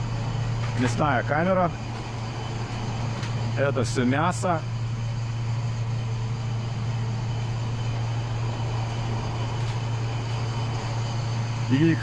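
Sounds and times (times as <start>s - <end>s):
ship machinery humming: 0.0s - 12.0s.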